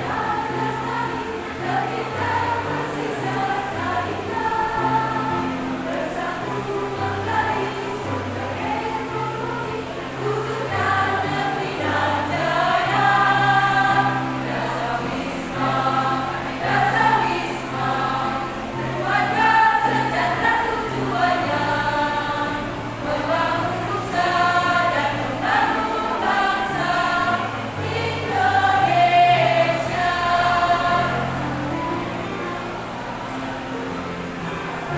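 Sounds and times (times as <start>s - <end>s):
women's choir singing: 0.0s - 34.9s.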